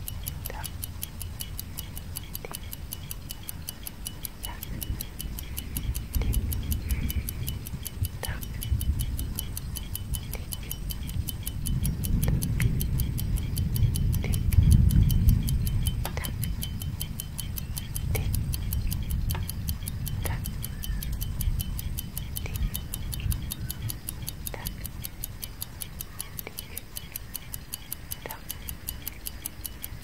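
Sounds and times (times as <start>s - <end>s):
clock ticking: 0.0s - 30.0s
stronger clock clicks: 0.0s - 30.0s.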